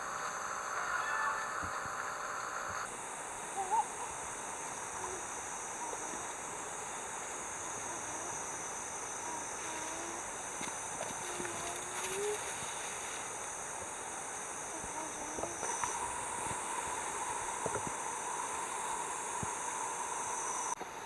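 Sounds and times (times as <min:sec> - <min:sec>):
faint short wavering calls: 0:00.0 - 0:19.3
steady outdoor hiss: 0:00.0 - 0:21.0.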